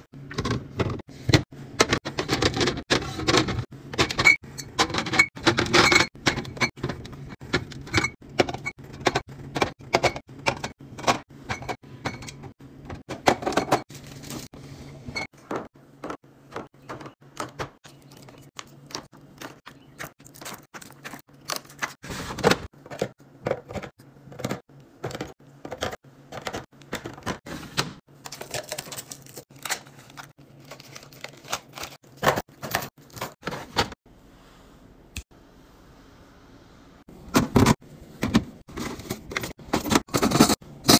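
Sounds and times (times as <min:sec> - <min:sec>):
food containers clicking and knocking: 0:00.3 - 0:14.5, 0:15.3 - 0:34.0, 0:37.3 - 0:40.9.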